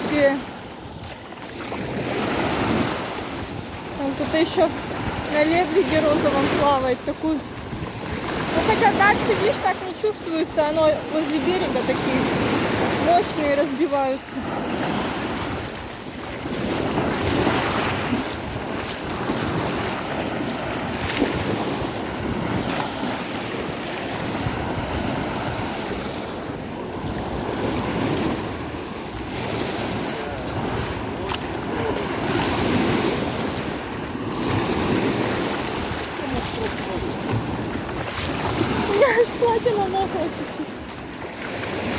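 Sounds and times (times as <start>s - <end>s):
sea waves breaking at shoreline: 0.0s - 41.9s
wind rumbling on microphone: 0.0s - 41.9s.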